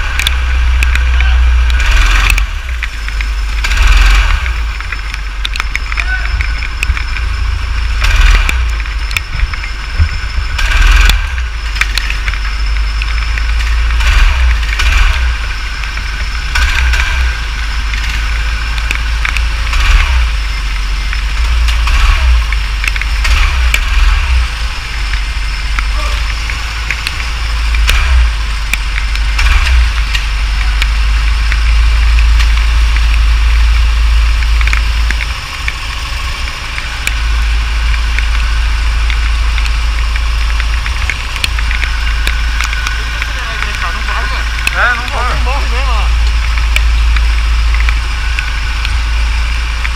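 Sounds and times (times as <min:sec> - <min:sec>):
go-kart engines idling: 0:00.0 - 0:49.9.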